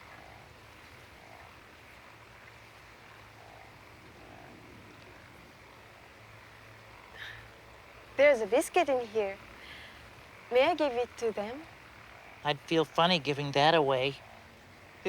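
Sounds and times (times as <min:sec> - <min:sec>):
frogs croaking: 0:00.0 - 0:15.0
low steady hum: 0:00.0 - 0:15.0.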